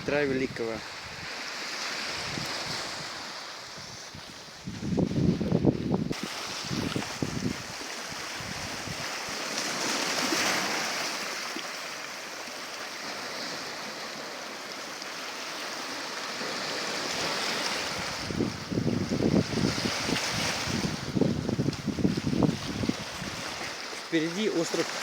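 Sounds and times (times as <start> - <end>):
sea waves washing onto shore: 0.0 - 25.0.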